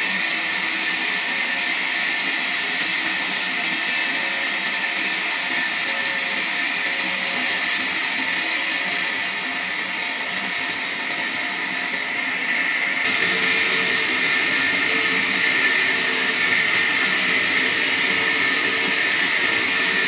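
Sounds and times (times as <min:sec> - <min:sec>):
band sawmill whirring: 0:00.0 - 0:20.0.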